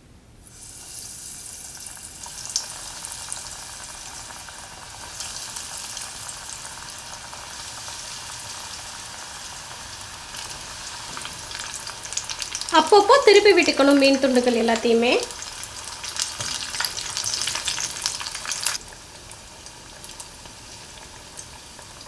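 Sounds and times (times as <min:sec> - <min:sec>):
fish fingers deep-frying in oil: 0:00.4 - 0:22.0.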